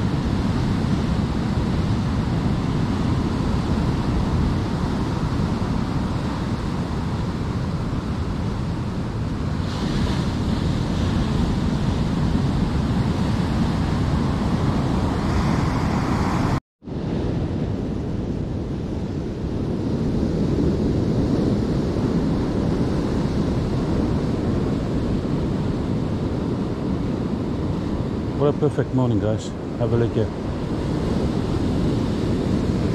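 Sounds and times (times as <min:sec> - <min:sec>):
wind rumbling on microphone: 0:00.0 - 0:32.9.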